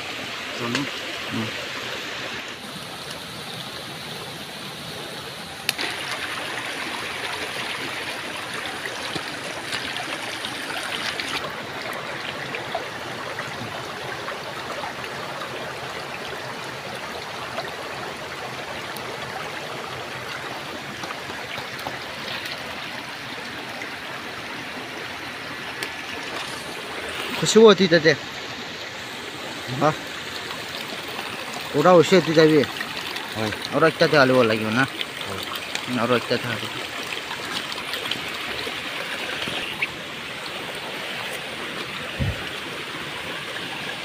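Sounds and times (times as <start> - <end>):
stream flowing over stones: 0.0 - 44.0.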